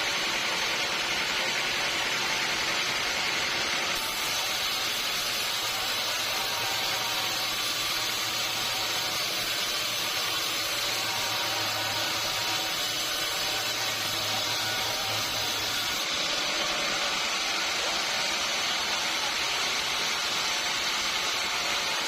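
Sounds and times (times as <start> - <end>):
sawmill machinery sawing logs: 0.0 - 22.0.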